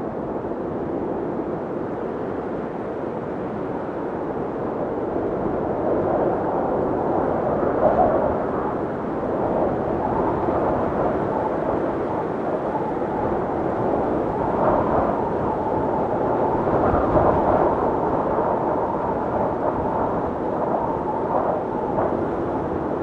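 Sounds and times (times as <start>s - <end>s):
blizzard wind blowing: 0.0s - 23.0s.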